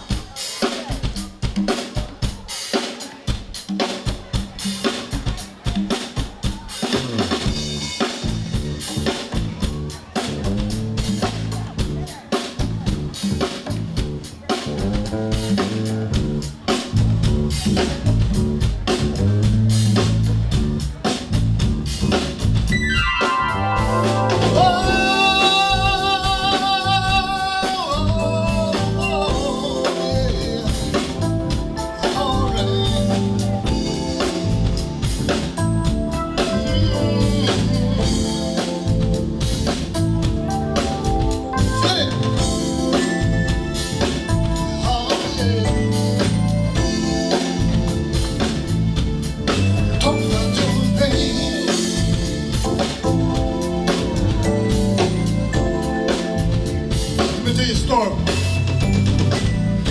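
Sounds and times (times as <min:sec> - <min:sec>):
live band instrumental groove: 0:00.0 - 0:59.9.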